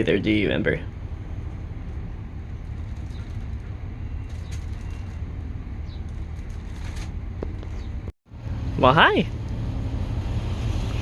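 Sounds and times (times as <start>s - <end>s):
strong wind rumbling: 0.0s - 11.0s.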